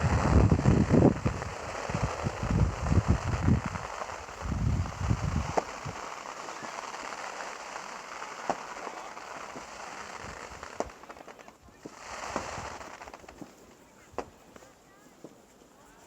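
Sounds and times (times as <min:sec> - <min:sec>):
fireworks crackling: 0:00.0 - 0:16.0
fireworks popping: 0:00.0 - 0:16.0.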